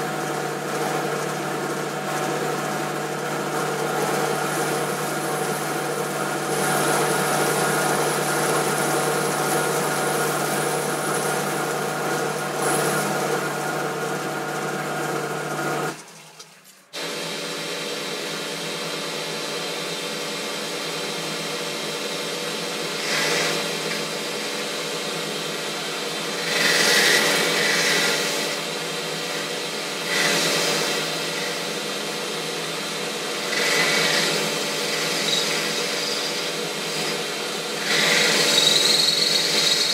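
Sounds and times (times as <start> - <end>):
lathe running: 0.0 - 16.1, 17.0 - 39.9
tool cutting metal: 0.0 - 17.3, 22.8 - 39.9.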